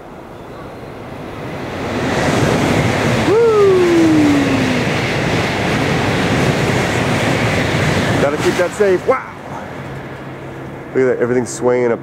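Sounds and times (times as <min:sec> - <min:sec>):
train rushing past: 0:00.0 - 0:12.0.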